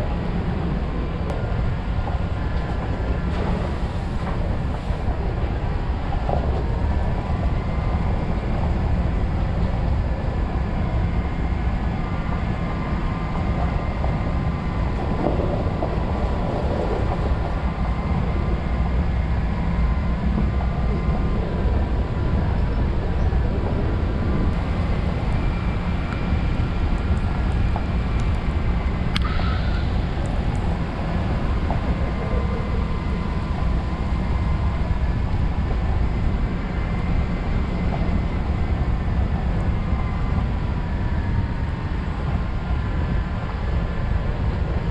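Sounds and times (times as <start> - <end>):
faint whine: 0.0 - 44.9
vehicle rumbling on dirt road: 0.0 - 44.9.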